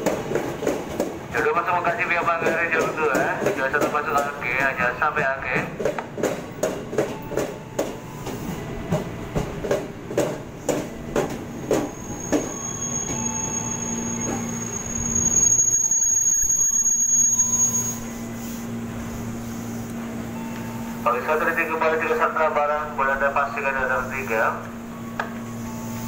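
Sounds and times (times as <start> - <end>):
train hum with high whine: 0.0 - 26.0
train rush of noise: 0.0 - 26.0.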